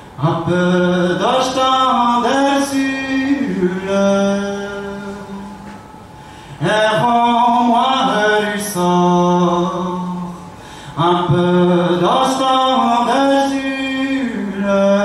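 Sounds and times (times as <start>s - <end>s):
man singing unaccompanied: 0.2s - 5.7s, 6.6s - 15.0s.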